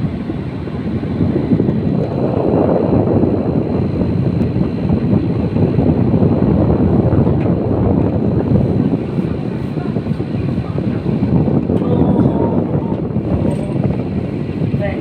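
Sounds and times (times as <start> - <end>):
air conditioner fan rushing: 0.0 - 15.0.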